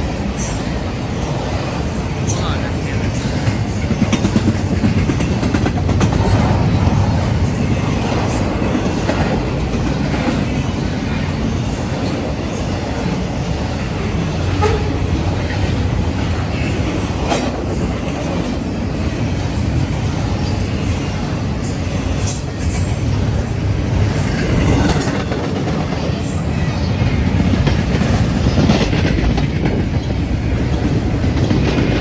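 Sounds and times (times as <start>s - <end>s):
freight train rumbling past: 0.0s - 32.0s
wheels clicking over rail joints: 3.0s - 32.0s.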